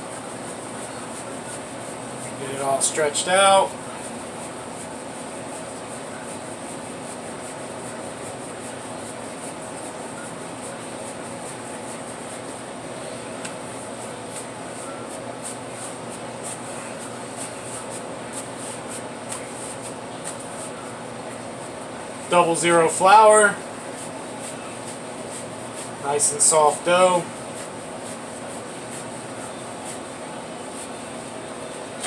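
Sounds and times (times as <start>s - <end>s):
dough being stretched by hand: 0.0s - 22.4s, 23.0s - 32.0s
ventilation fan hum: 0.0s - 32.0s.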